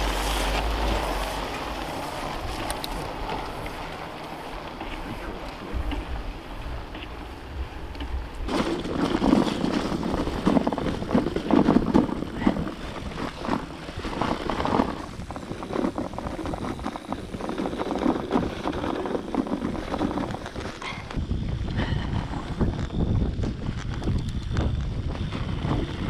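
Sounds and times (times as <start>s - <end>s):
bike and bags rattling: 0.0s - 26.0s
bike tyres crunching over rocks: 0.0s - 26.0s
wind buffeting microphone: 0.0s - 26.0s.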